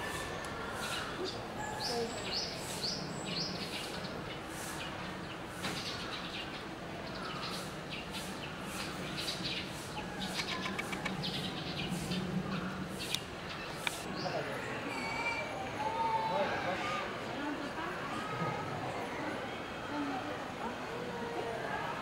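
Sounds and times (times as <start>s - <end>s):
murmur of distant voices: 0.0s - 22.0s.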